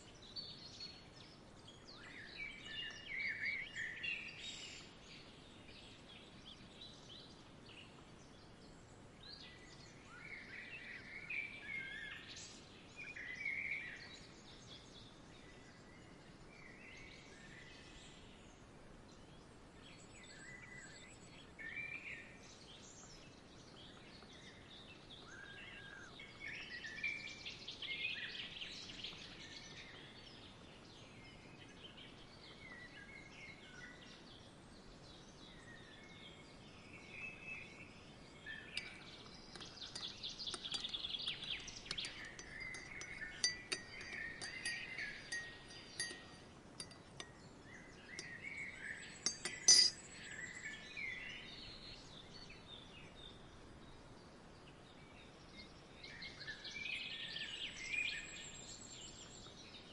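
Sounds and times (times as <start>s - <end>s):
faint outdoor hiss: 0.0s - 59.9s
small birds chirping: 0.0s - 59.9s.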